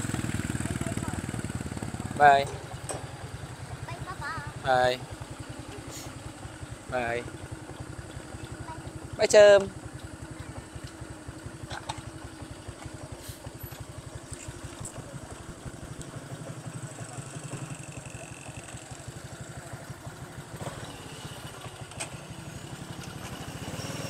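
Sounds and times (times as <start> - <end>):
small motorcycle engine idling: 0.0 - 24.0.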